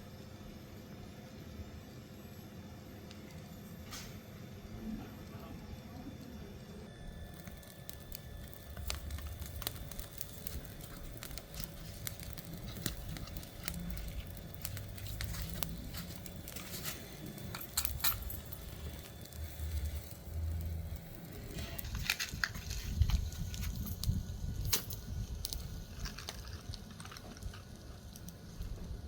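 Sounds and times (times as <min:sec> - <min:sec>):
wood fire crackling and popping: 0:03.0 - 0:29.0
low uneven rumble: 0:04.6 - 0:29.0.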